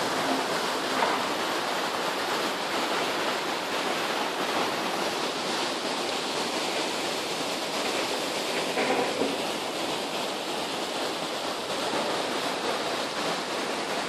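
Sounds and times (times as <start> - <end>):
river rushing over boulders: 0.0 - 14.0.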